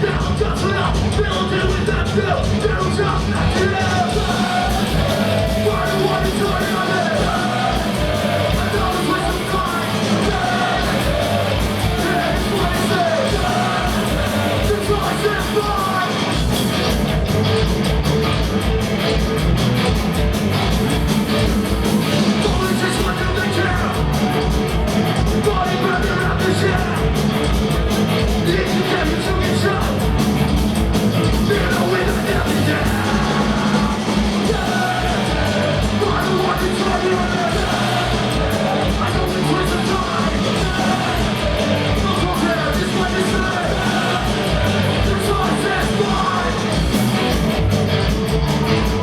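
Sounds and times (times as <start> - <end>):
punk rock band playing live: 0.0 - 49.0.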